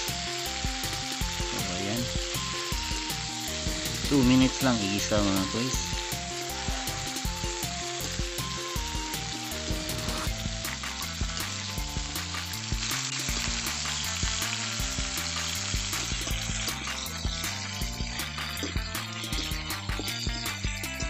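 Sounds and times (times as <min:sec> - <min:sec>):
chicken feet sizzling in oil: 0:00.0 - 0:21.0
simple background music melody: 0:00.0 - 0:21.0.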